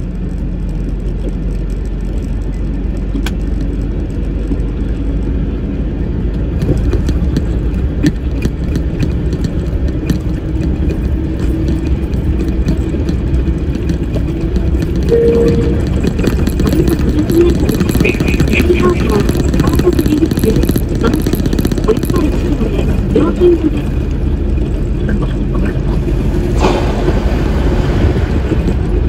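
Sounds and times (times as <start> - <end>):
truck engine and road drone: 0.0 - 29.0.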